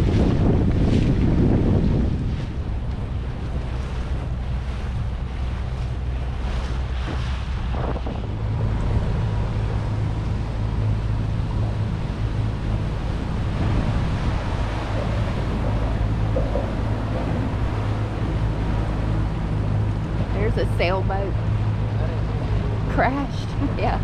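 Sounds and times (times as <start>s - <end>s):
outboard motor running: 0.0s - 24.0s
water rushing past hull: 0.0s - 24.0s
wind buffeting microphone: 0.0s - 24.0s.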